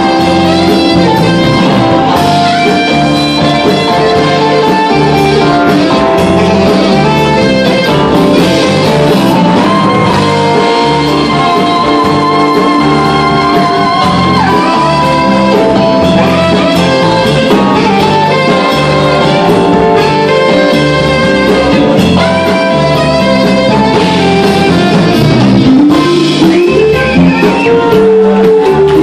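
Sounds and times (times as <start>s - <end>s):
distant live band playing: 0.0s - 29.0s.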